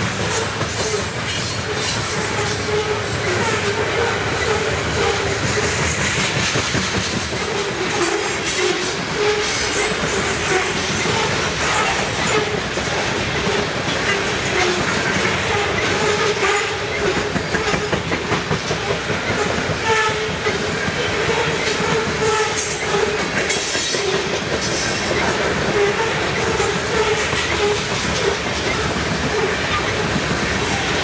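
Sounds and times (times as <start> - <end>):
clickety-clack over rail joints: 0.0 - 31.0
train wheels rumbling on rails: 0.0 - 31.0.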